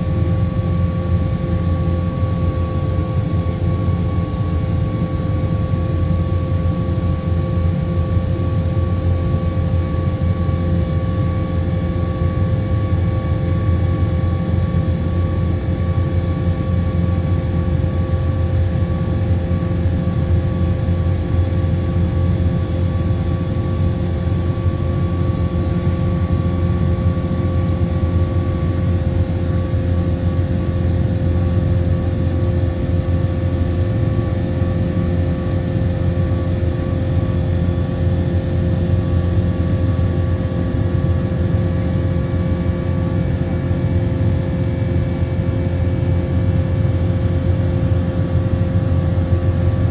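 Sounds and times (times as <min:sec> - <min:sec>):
jet engine drone: 0:00.0 - 0:49.9.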